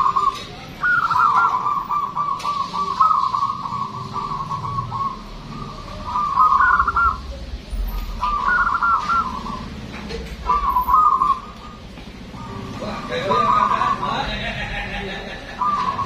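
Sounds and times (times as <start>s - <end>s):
dove cooing: 0.0s - 14.8s, 15.4s - 16.0s.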